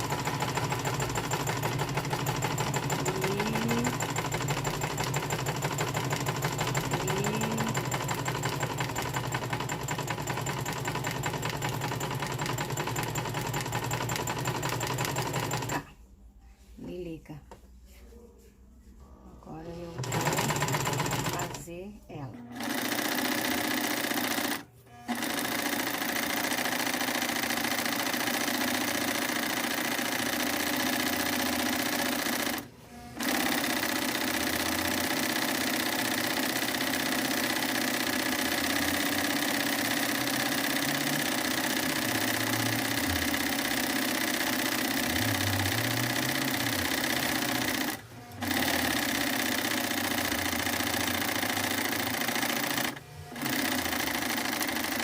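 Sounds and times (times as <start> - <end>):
sewing machine running: 0.0 - 15.9, 19.7 - 21.7, 22.4 - 55.0.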